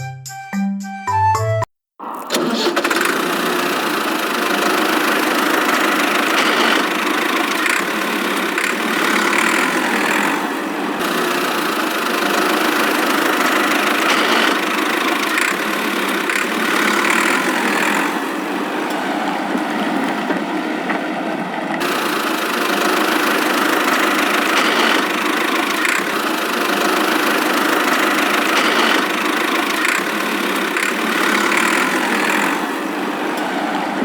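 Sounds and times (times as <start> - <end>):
small engine running roughly: 2.2 - 34.0.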